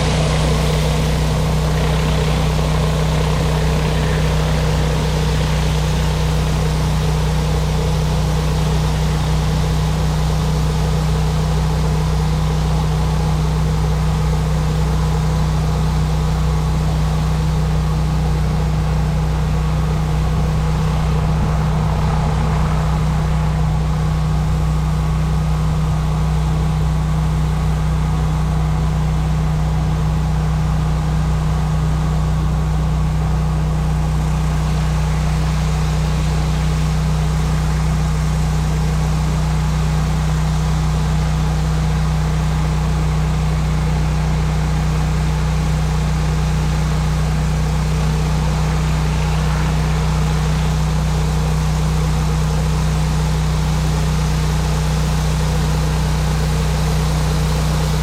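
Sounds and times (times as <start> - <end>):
pressure washer engine running: 0.0 - 58.0.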